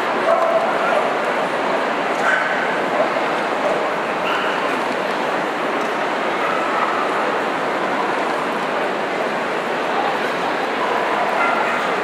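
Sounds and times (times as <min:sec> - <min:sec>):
crowd murmur in large hall: 0:00.0 - 0:12.0.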